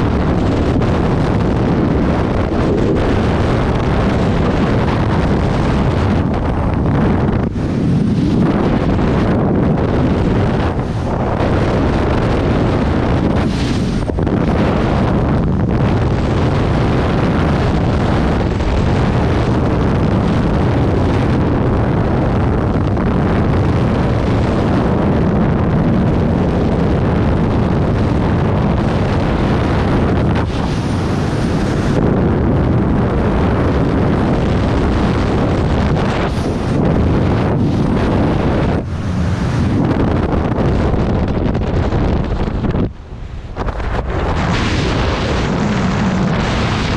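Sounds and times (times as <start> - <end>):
wind rushing on microphone: 0.0 - 46.9.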